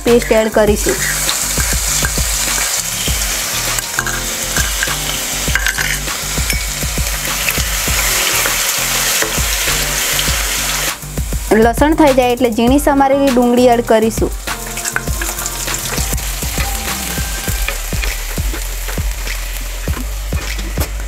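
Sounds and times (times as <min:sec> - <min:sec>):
garlic sizzling in hot oil: 0:00.0 - 0:21.0.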